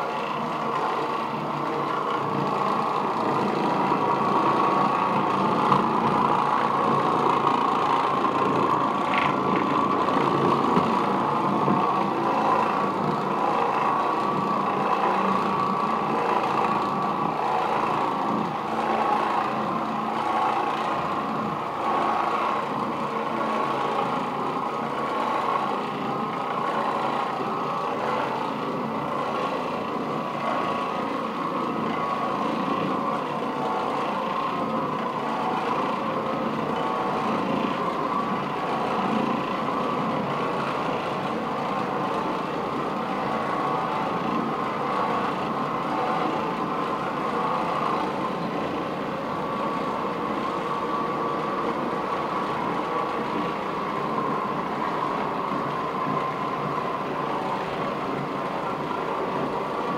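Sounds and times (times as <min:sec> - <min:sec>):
floor machine motor humming: 0:00.0 - 0:59.9.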